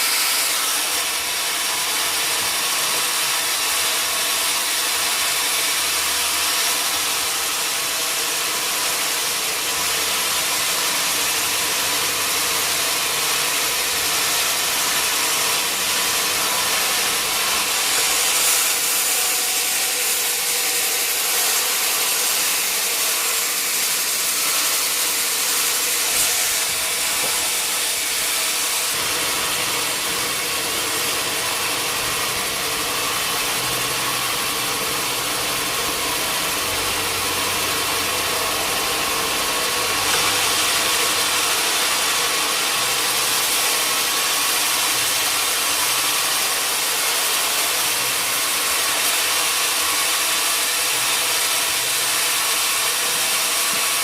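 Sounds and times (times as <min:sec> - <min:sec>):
sawmill machinery hiss: 0:00.0 - 0:54.0.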